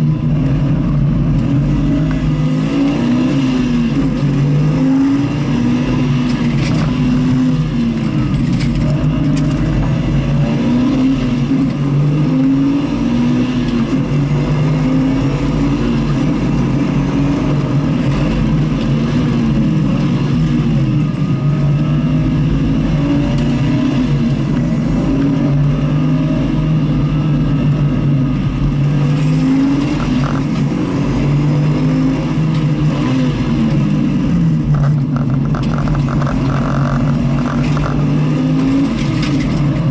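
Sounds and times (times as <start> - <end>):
race car engine revving: 0.0 - 39.9
steady rushing noise: 0.0 - 39.9.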